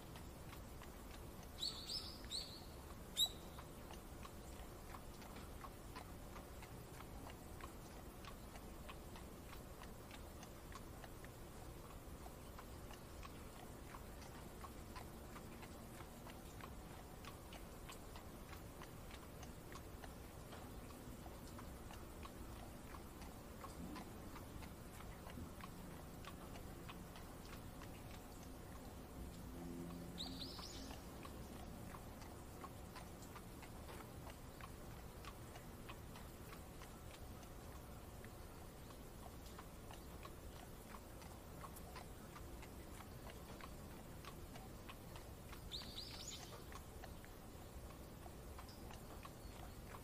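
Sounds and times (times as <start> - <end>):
light rain ticking: 0.0 - 50.0.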